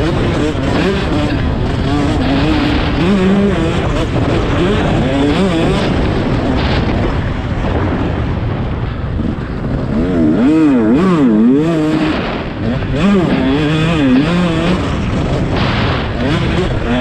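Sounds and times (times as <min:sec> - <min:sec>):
dirt bike engine revving: 0:00.0 - 0:08.3, 0:08.9 - 0:17.0.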